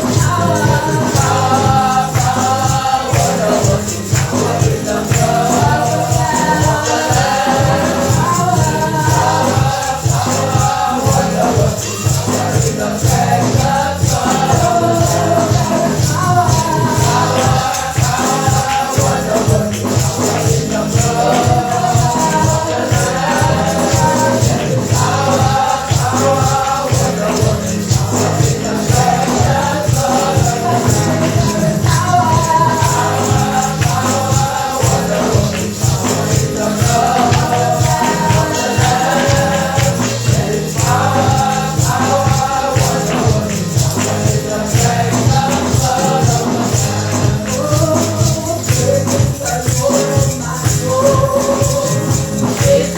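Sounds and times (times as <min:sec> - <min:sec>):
choir singing gospel praise: 0:00.0 - 0:52.9
steady beat: 0:00.0 - 0:52.9
tambourine or shaker: 0:00.0 - 0:52.9.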